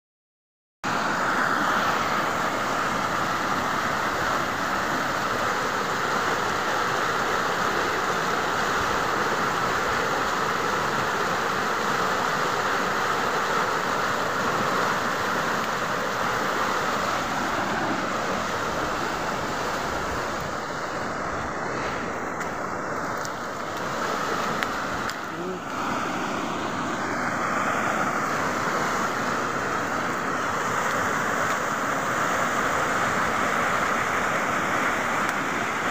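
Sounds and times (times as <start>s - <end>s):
stream water rushing: 0.8s - 35.9s.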